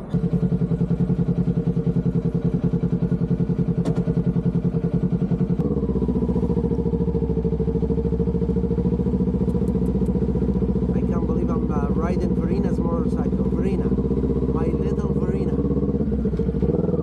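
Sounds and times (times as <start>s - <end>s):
motorcycle engine idling: 0.0s - 17.0s
motorcycle pulling away: 0.1s - 17.0s.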